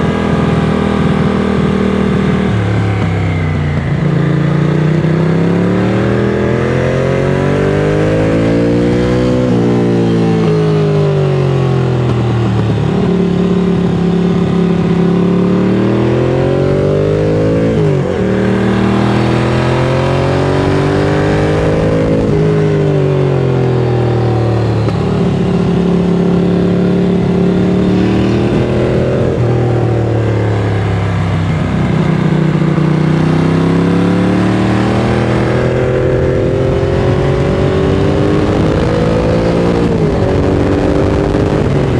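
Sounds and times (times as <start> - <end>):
motorcycle accelerating and shifting: 0.0 - 41.9.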